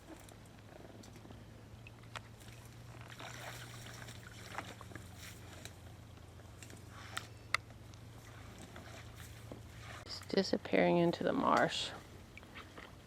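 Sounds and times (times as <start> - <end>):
paddle strokes in shallow water: 0.0 - 10.6.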